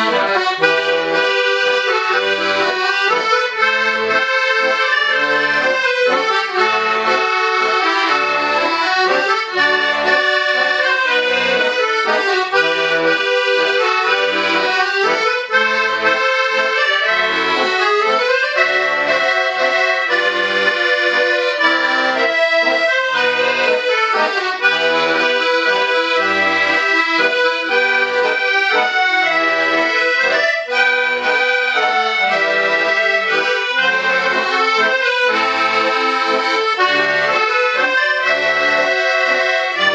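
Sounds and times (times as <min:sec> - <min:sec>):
accordions playing: 0:00.0 - 0:39.9.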